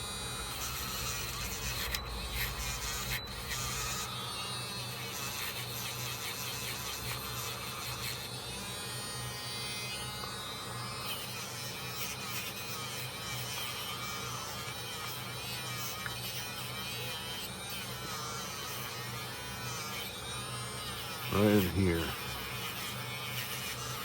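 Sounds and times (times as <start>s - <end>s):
small electric tool buzzing: 0.0s - 24.0s.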